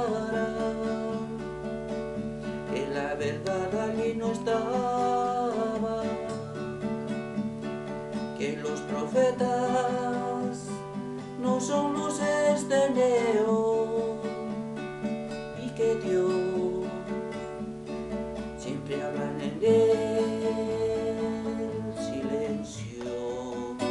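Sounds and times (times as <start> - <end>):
acoustic guitar chords: 0.0 - 23.9.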